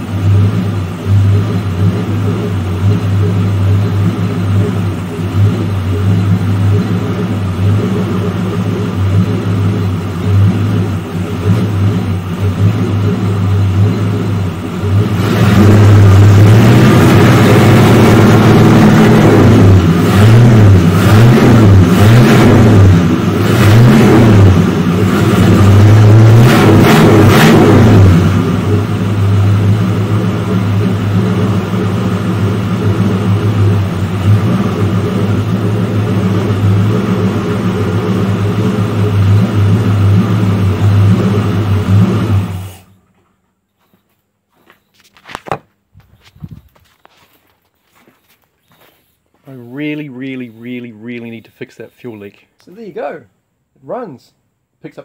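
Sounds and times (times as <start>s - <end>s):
car engine idling and revving: 0.0s - 53.7s.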